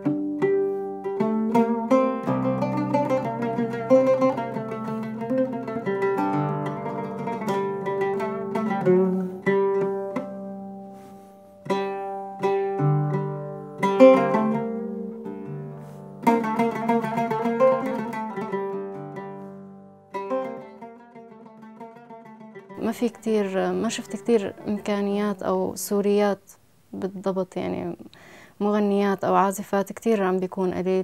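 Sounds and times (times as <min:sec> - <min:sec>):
oud plucked with a pick: 0:00.0 - 0:25.4.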